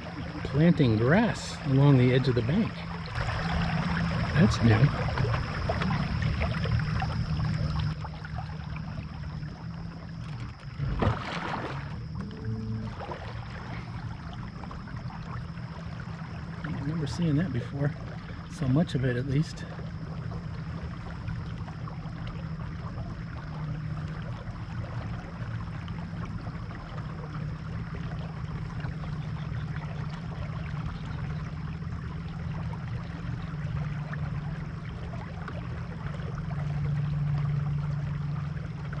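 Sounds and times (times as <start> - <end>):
boat motor running: 0.0 - 39.0
water washing against hull: 0.0 - 39.0.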